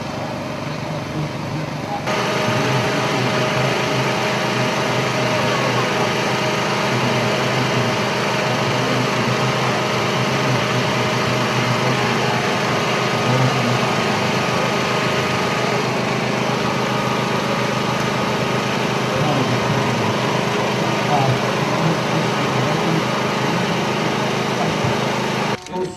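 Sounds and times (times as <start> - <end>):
race car engine idling: 0.0 - 25.9.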